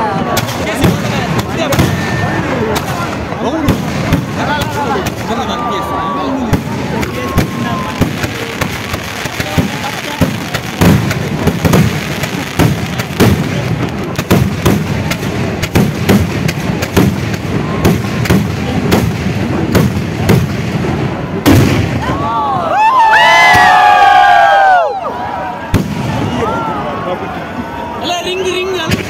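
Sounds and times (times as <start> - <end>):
fireworks bursting: 0.0 - 24.8, 25.5 - 29.0.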